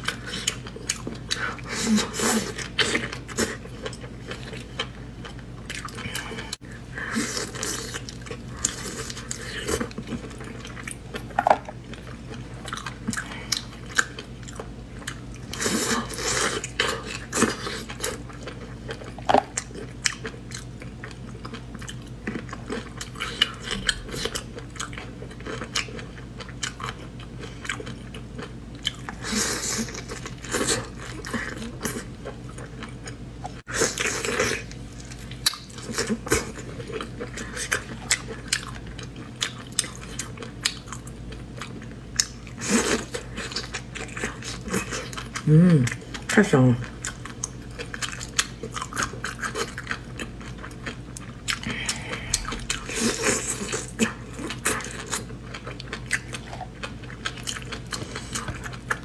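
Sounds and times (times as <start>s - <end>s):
crunching and wet chewing: 0.0s - 59.0s.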